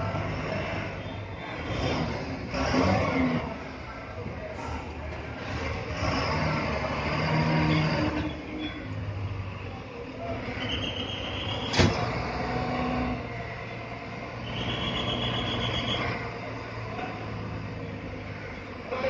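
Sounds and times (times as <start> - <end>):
diesel bus engines running: 0.0 - 19.0.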